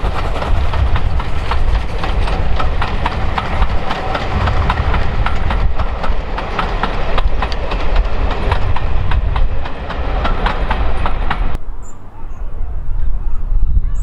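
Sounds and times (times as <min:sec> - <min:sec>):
train wheels clicking over rail joints: 0:00.0 - 0:11.6
low train rumble: 0:00.0 - 0:14.0.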